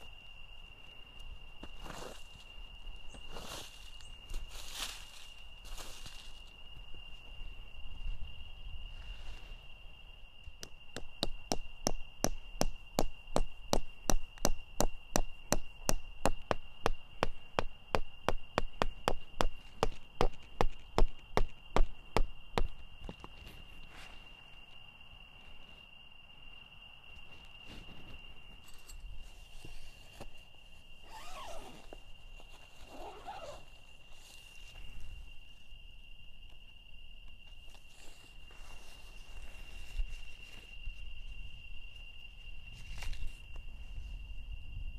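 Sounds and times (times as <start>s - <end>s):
crickets trilling: 0.0s - 44.9s.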